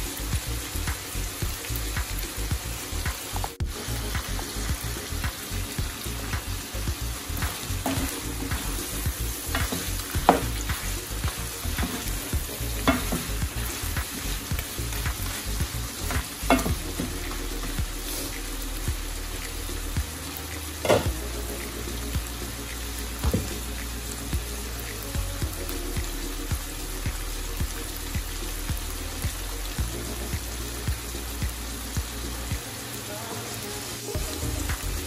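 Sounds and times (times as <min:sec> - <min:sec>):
chicken sizzling in oil: 0:00.0 - 0:35.0.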